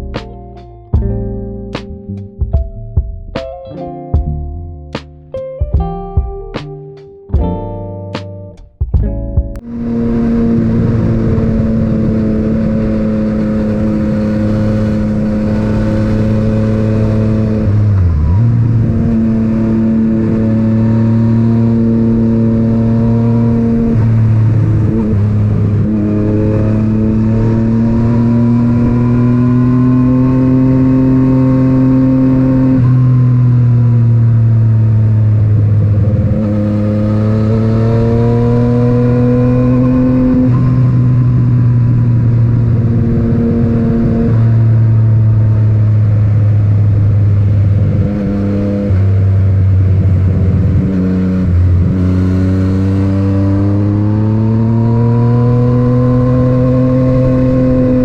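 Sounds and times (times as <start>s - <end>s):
motorcycle engine while riding: 9.6s - 58.0s.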